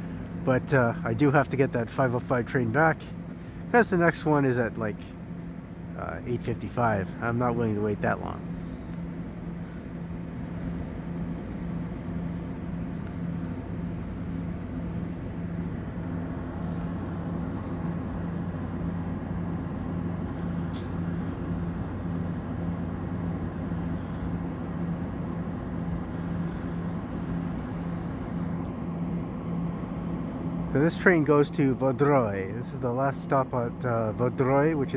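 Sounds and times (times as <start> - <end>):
locomotive diesel engine throbbing: 0.0 - 34.9.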